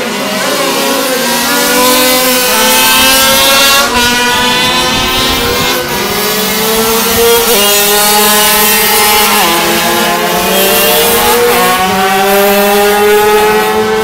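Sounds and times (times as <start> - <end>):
racing motorcycle engines revving: 0.0 - 14.0.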